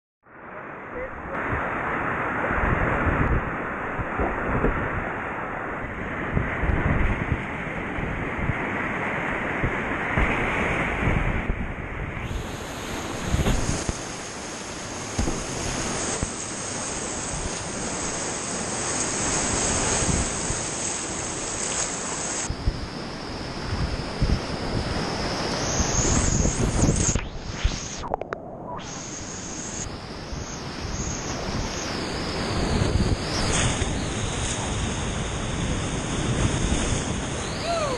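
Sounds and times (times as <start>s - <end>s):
wind buffeting microphone: 1.1s - 21.5s, 22.4s - 37.9s.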